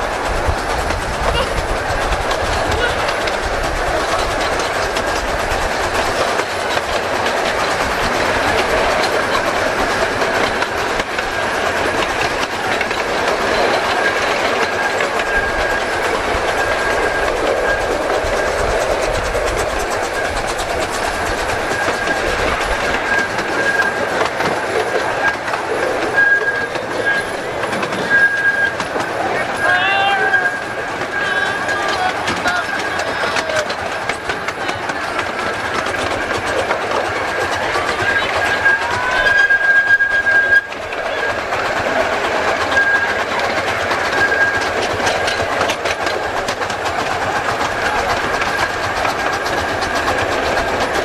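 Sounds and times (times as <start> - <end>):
miniature train wheels clacking: 0.0 - 51.0.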